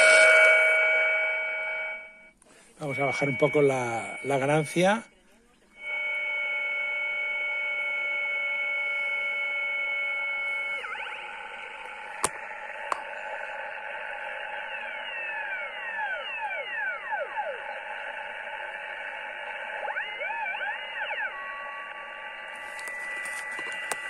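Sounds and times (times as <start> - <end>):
radio heterodyne whistle: 2.8 - 5.0, 5.7 - 24.0.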